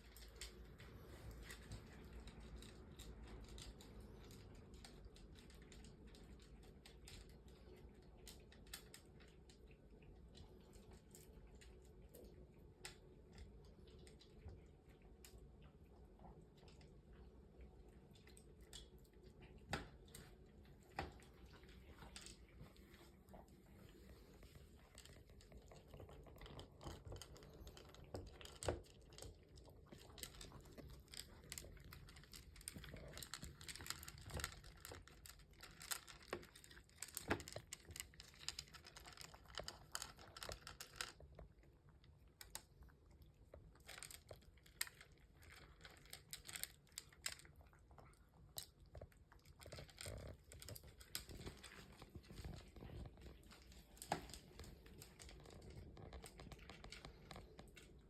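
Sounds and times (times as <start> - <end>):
cats chewing food: 0.0 - 58.0.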